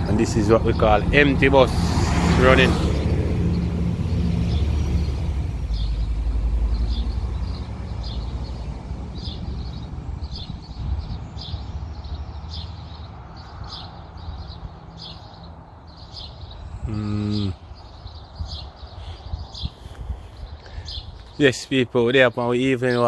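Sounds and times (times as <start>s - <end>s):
bus rumbling past: 0.0s - 21.3s
birds chirping: 0.0s - 23.0s.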